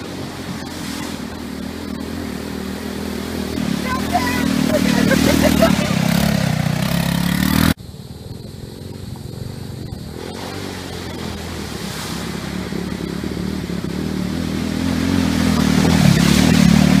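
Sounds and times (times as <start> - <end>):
water splashing from wheels: 0.0 - 7.8, 8.6 - 17.0
go-kart engine: 0.0 - 17.0.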